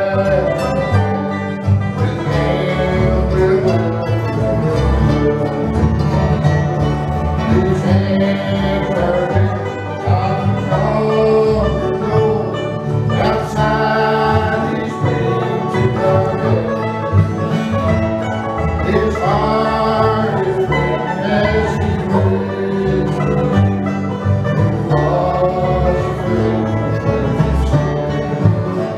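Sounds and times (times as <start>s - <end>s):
acoustic guitar strumming: 0.0s - 28.9s
banjo: 0.0s - 28.9s
bending melody line: 0.0s - 28.9s
upright bass line: 0.0s - 28.9s.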